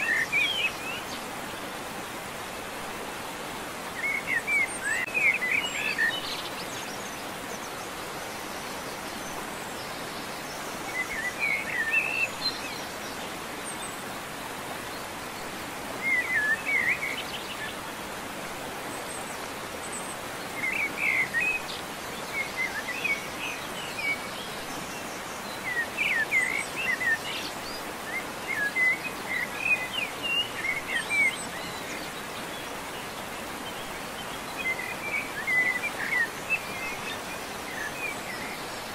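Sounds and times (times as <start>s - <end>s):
birds chirping: 0.0s - 38.9s
steady background hiss: 0.0s - 38.9s.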